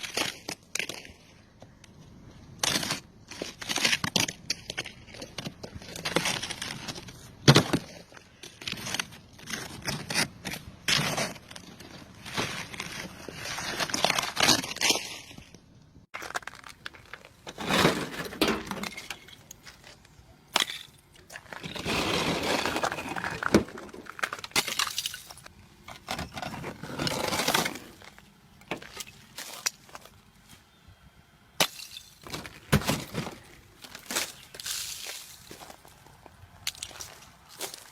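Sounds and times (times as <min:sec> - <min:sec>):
ice cracking and crunching: 0:02.6 - 0:30.2, 0:31.6 - 0:37.9.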